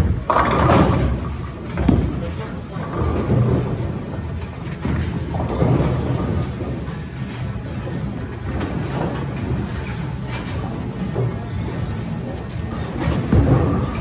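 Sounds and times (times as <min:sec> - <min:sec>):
bowling balls rolling: 0:00.0 - 0:14.0
bowling pins clattering: 0:00.0 - 0:14.0.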